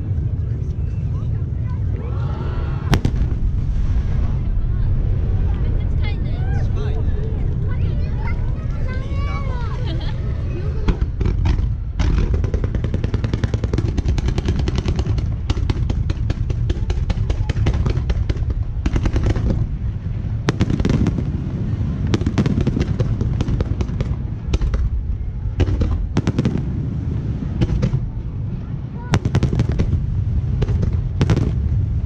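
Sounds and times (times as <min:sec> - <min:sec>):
deep rumble: 0:00.0 - 0:32.0
firework bangs and crackles: 0:02.8 - 0:32.0.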